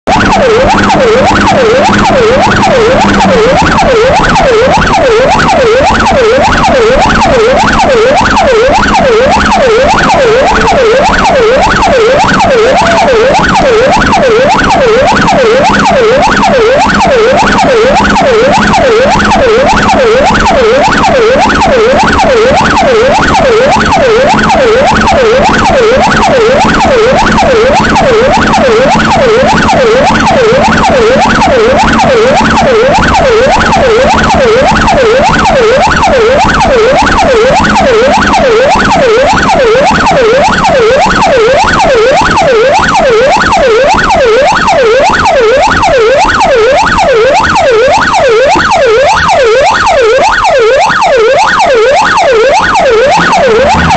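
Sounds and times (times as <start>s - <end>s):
electronic siren wailing: 0.0s - 53.9s.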